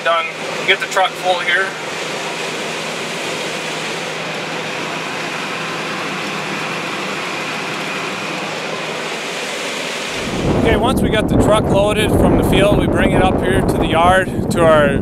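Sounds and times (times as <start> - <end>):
combine harvester running: 0.0 - 14.7.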